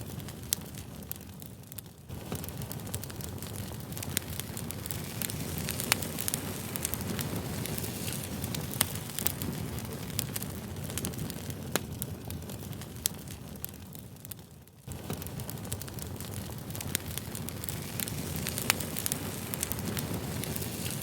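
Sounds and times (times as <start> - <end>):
fire crackling and popping: 0.0 - 21.0
wood fire burning: 0.0 - 21.0.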